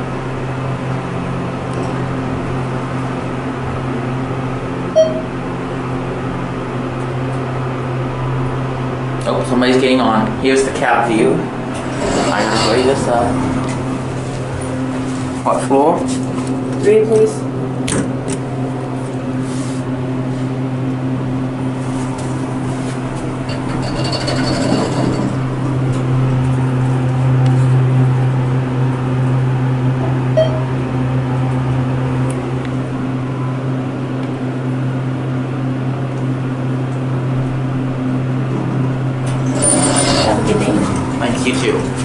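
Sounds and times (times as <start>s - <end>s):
elevator humming: 0.0s - 42.0s.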